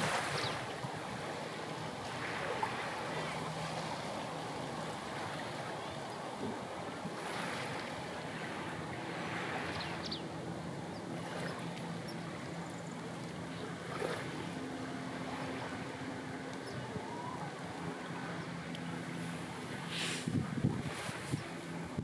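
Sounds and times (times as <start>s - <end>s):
small waves at shore: 0.0s - 22.0s
wind: 0.0s - 22.0s.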